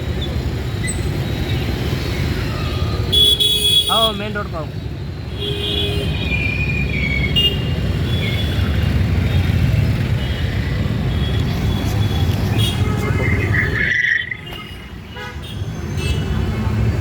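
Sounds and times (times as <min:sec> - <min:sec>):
vehicle engines passing: 0:00.0 - 0:03.1, 0:04.1 - 0:17.0.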